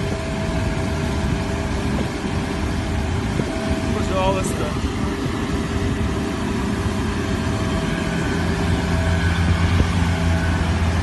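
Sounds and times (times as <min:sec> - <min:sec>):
engine rumble and drone: 0:00.0 - 0:11.0.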